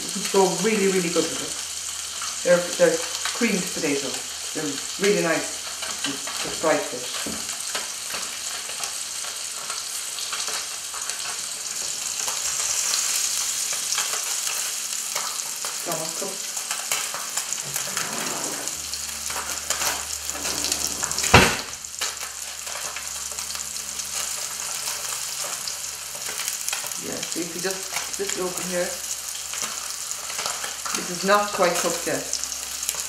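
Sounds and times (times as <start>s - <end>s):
fish sizzling in a frying pan: 0.0s - 33.0s.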